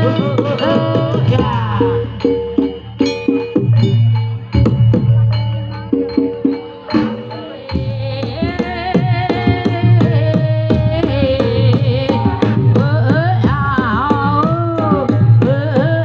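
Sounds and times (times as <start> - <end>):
wavering melody: 0.0 - 15.2
rapid hand drum strokes: 0.0 - 16.0.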